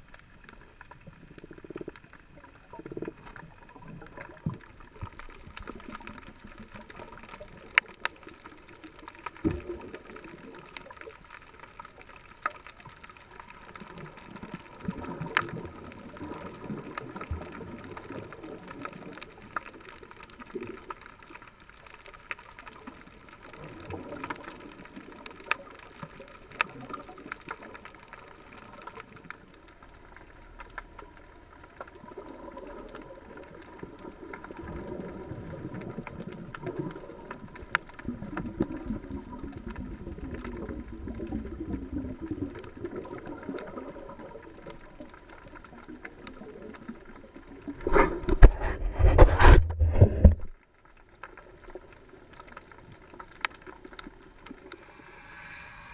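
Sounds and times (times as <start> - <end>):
sharp clicks and crackles: 0.0 - 55.5
muffled underwater water swash: 0.0 - 55.9.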